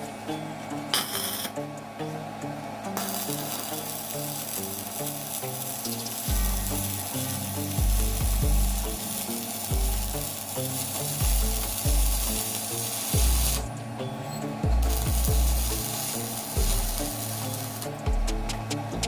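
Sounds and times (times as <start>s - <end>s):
arc welding sizzle: 0.0s - 1.8s, 2.9s - 19.0s
music with pulsing bass: 1.6s - 19.0s.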